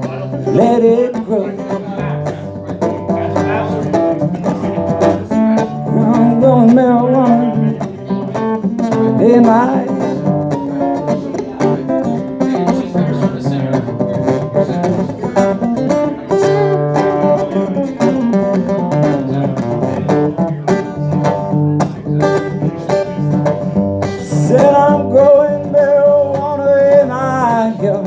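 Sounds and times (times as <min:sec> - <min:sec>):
guitar plucking notes: 0:00.0 - 0:28.0
person singing: 0:00.0 - 0:28.0.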